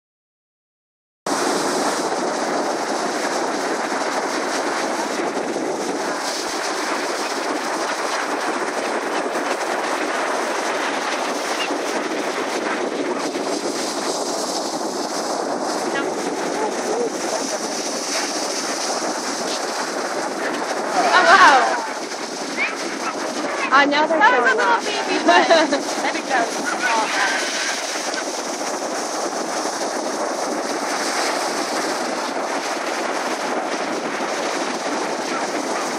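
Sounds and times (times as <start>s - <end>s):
ocean waves breaking on beach: 1.3s - 35.9s.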